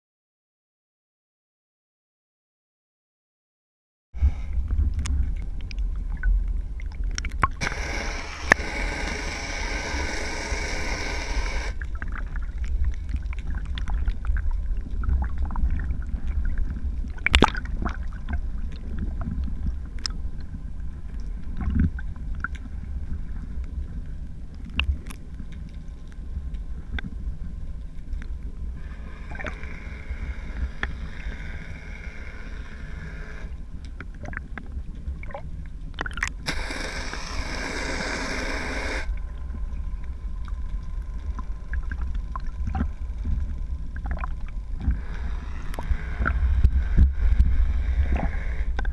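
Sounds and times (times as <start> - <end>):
underwater low rumble: 4.2 - 48.9.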